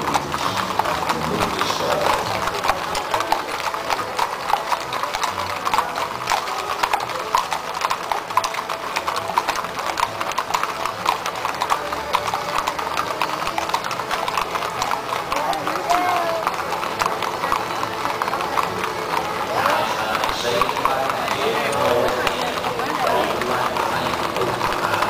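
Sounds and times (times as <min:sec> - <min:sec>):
horses' hooves on pavement: 0:00.0 - 0:25.0.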